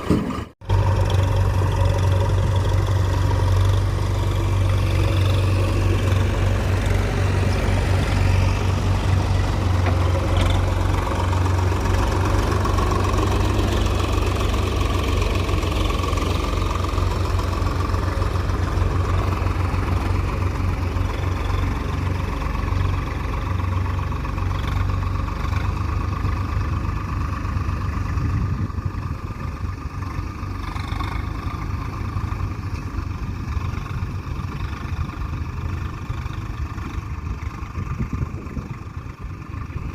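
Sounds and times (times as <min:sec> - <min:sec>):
heavy diesel engine running: 0:00.3 - 0:39.9.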